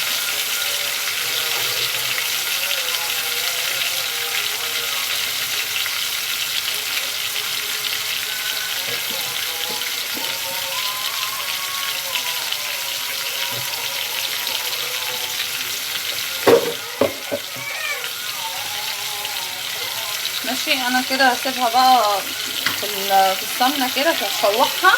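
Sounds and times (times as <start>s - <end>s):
meat sizzling in oil: 0.0s - 24.9s.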